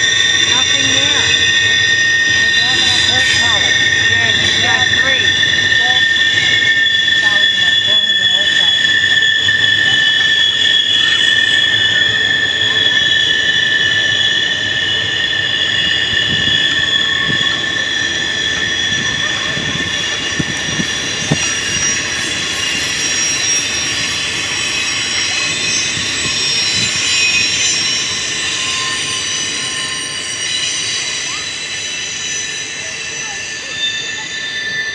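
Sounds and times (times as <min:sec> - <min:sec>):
freight train rumbling and clattering: 0:00.0 - 0:34.8
train wheels squealing: 0:00.0 - 0:34.9.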